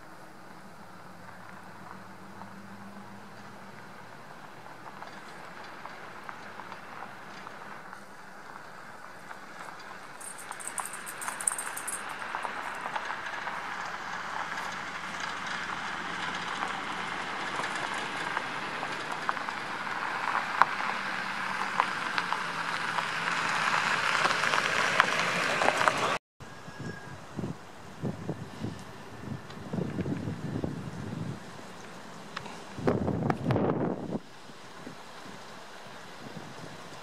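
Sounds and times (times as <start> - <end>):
distant freight train rumbling: 0.1 - 37.0.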